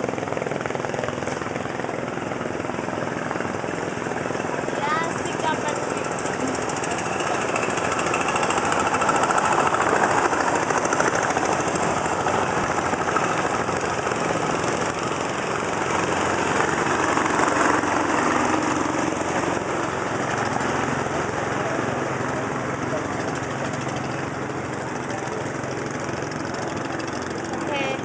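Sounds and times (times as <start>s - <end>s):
motor boat engine chugging: 0.0s - 28.0s.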